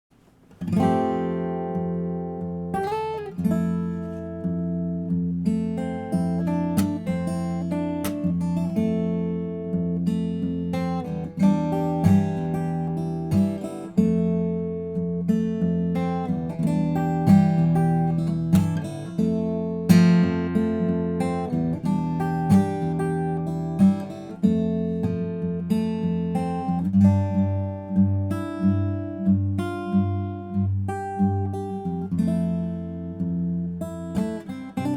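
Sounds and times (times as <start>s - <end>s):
acoustic guitar playing: 0.1s - 34.9s.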